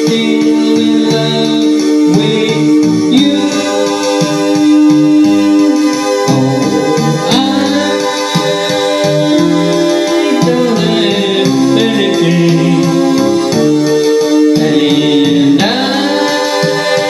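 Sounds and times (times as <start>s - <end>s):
man singing into a microphone: 0.0s - 5.6s, 6.6s - 13.6s, 14.4s - 17.0s
drum machine beat: 0.0s - 17.0s
organ-like keyboard chords: 0.0s - 17.0s.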